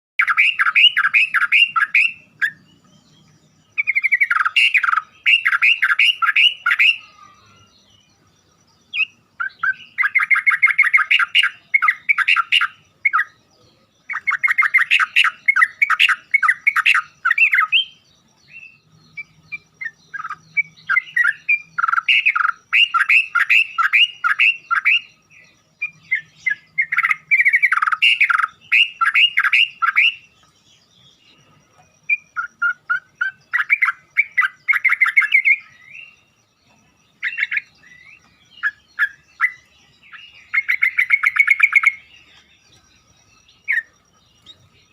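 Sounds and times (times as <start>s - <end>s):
bird singing chattering notes: 0.2s - 44.9s.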